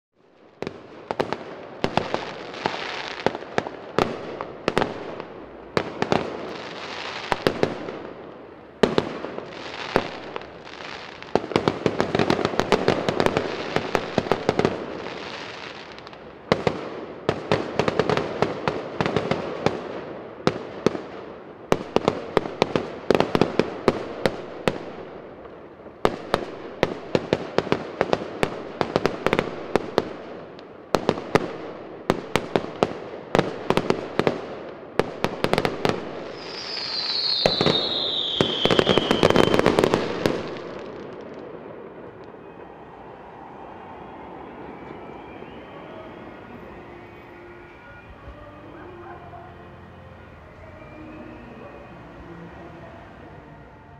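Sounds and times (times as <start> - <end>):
fireworks bursting with bangs: 0.2 - 53.7
fireworks crackling: 0.2 - 53.9.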